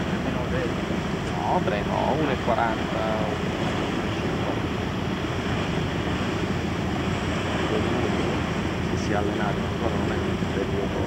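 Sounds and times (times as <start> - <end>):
choppy sea water: 0.0 - 11.0
wind on microphone: 0.0 - 11.0.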